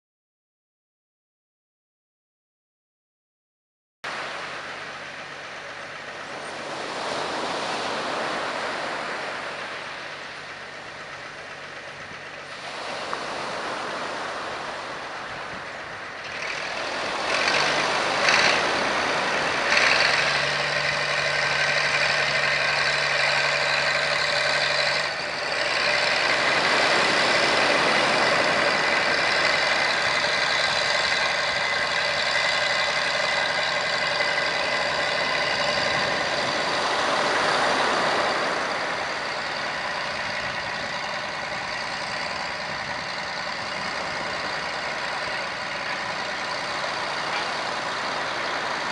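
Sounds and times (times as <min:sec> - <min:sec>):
diesel engine of heavy machinery: 0:04.1 - 0:48.9
high whine: 0:04.1 - 0:48.9.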